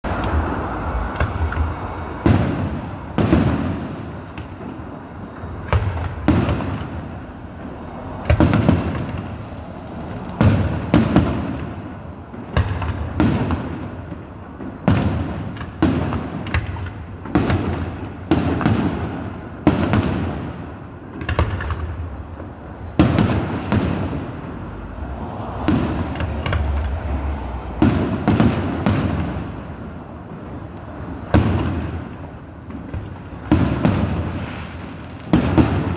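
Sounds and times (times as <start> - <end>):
fireworks shells booming: 0.1 - 35.9.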